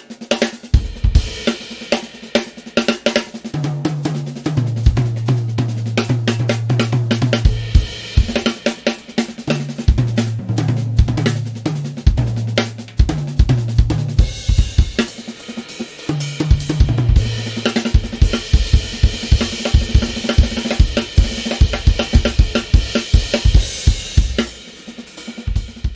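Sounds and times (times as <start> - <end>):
acoustic drum kit playing: 0.0 - 25.9.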